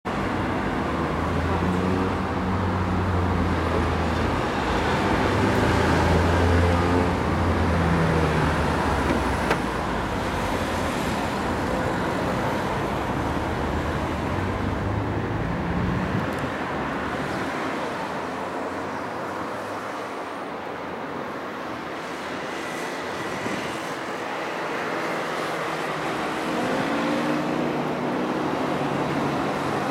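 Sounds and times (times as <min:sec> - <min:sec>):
traffic passing: 0:00.0 - 0:29.9.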